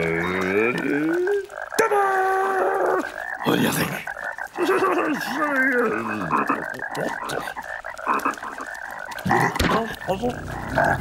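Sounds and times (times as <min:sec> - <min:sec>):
cartoon frogs croaking: 0:00.0 - 0:11.0.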